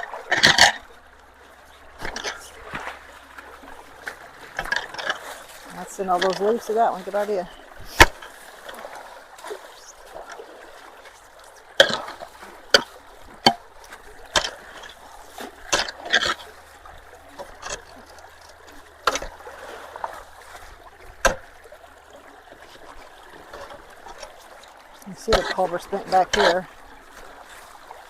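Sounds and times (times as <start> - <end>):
sharp knocks and splashes: 0.0 - 28.0
water trickling through culvert: 0.0 - 28.0.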